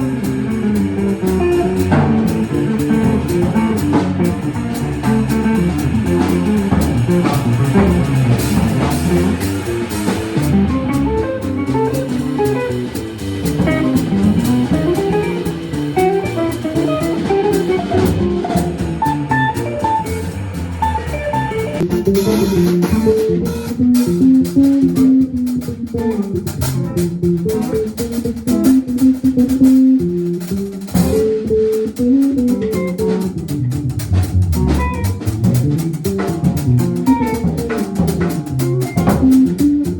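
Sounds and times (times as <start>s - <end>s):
bass: 0.0s - 39.9s
drum kit: 0.0s - 39.9s
jazz guitar lines: 0.0s - 39.9s.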